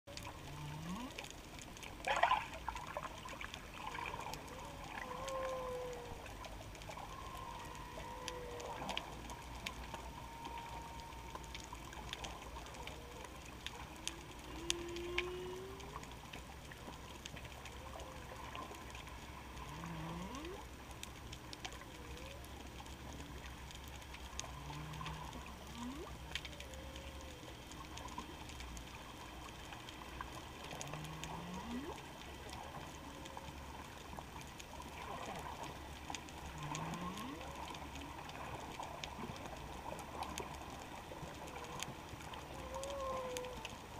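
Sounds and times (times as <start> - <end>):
whale song underwater: 0.1 - 43.9.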